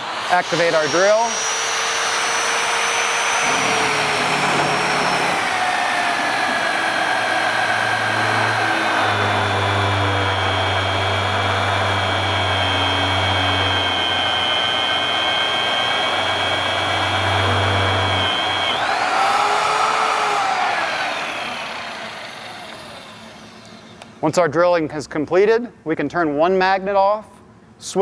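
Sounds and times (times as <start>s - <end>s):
low hum of drilling metal: 0.0s - 24.2s
magnetic drill motor whine: 0.0s - 24.2s.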